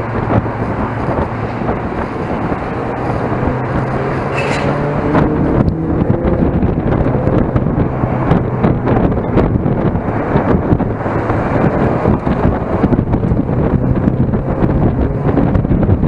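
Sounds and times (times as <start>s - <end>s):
car engine under load: 0.0s - 16.0s
wind buffeting on microphone: 0.0s - 16.0s.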